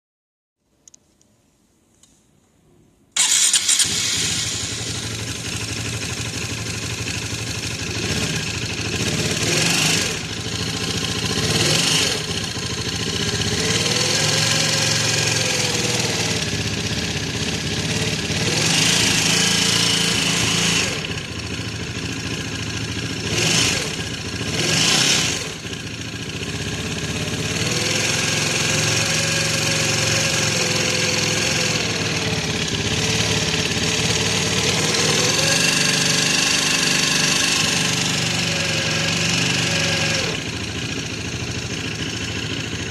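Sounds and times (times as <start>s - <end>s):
scooter engine idling and revving: 3.2s - 42.9s.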